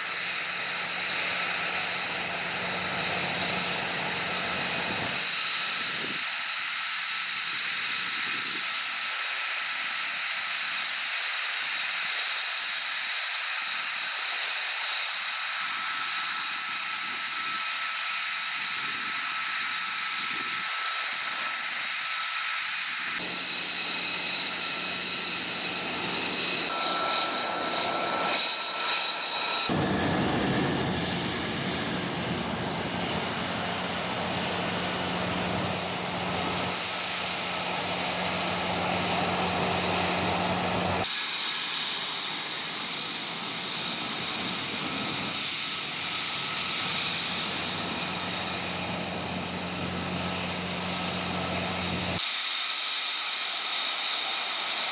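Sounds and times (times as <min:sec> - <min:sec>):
jet engine whining rush: 0:00.0 - 0:54.9.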